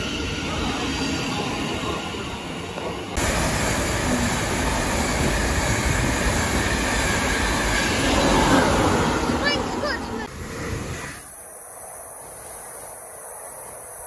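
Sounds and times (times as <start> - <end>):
train passing on rails: 0.0 - 14.0.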